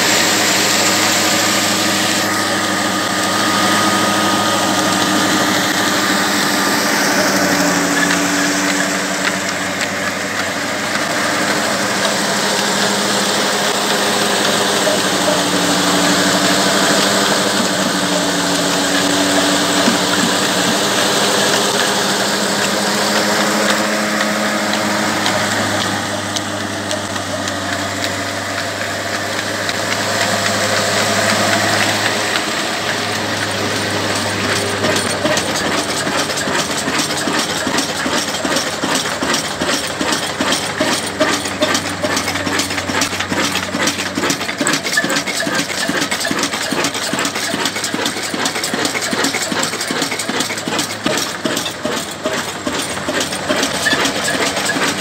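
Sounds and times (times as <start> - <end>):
diesel engine and machinery din: 0.0 - 55.0.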